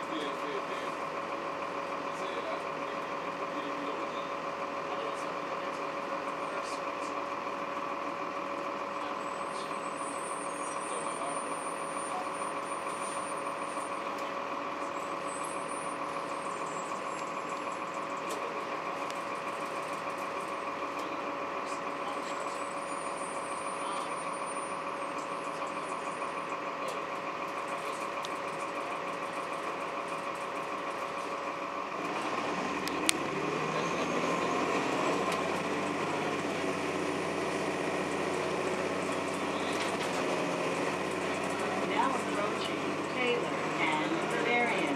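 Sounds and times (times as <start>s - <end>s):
bus engine humming: 0.0s - 44.9s
drivetrain whine: 0.0s - 44.9s.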